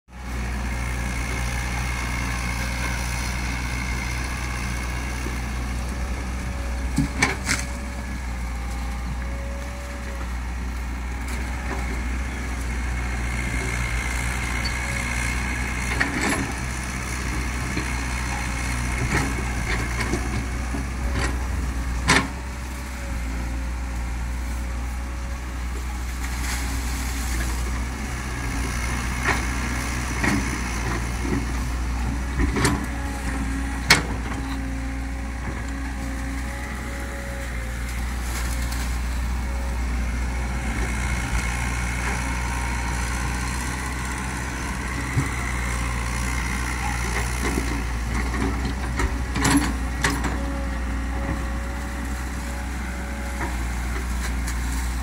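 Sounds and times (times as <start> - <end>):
excavator diesel engine running: 0.1 - 55.0.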